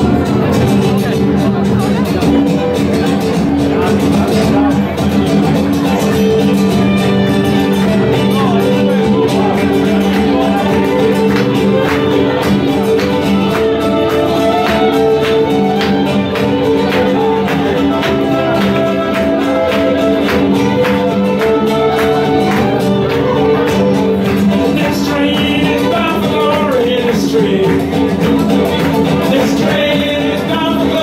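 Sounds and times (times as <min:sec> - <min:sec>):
acoustic guitar: 0:00.0 - 0:31.0
hand claps: 0:00.0 - 0:31.0
fiddle: 0:05.0 - 0:31.0.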